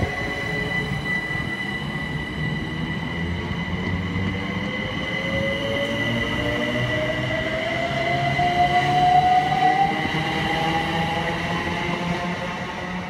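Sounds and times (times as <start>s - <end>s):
electric train running past: 0.0s - 13.0s.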